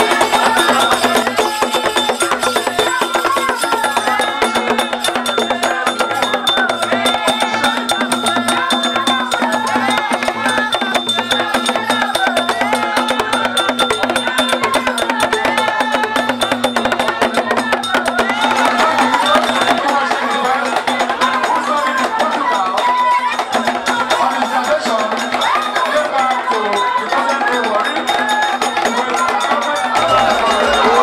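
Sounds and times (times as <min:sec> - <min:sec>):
drums and wooden percussion: 0:00.0 - 0:31.0
voices singing: 0:00.0 - 0:31.0.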